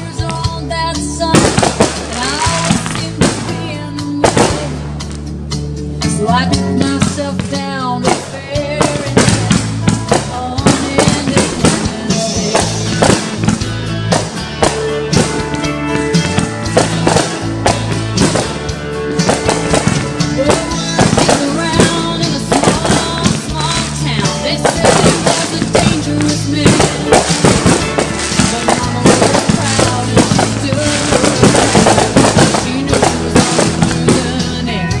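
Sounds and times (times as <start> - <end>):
firework crackling: 0.0 - 5.3, 6.8 - 35.0
music playing: 0.0 - 35.0
firework bangs: 1.2 - 5.2, 6.8 - 34.7.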